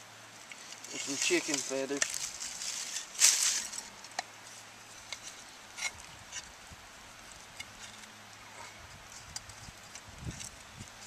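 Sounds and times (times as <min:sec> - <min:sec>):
clicks and rustles in dry leaves: 0:00.3 - 0:11.0.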